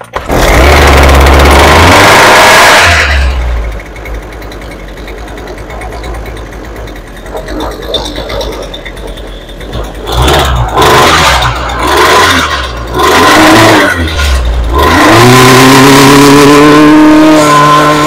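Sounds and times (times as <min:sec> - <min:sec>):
string trimmer engine starting: 0:00.0 - 0:18.0.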